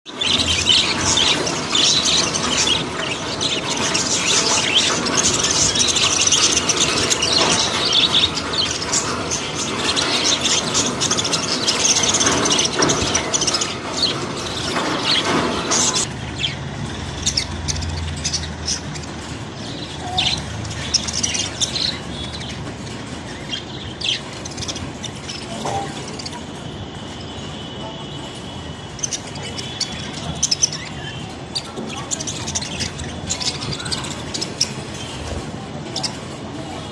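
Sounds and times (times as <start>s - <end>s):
budgerigars chattering and chirping: 0.1s - 36.8s.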